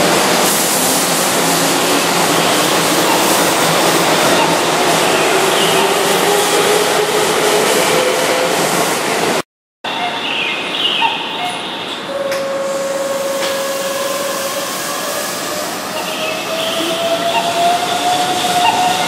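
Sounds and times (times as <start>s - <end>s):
station noise: 0.0s - 10.2s, 11.0s - 19.0s.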